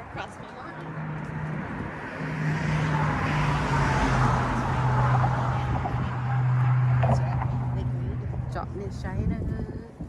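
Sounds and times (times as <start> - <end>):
tyre and road noise: 0.0 - 10.0
vehicle engine passing by: 0.7 - 9.1.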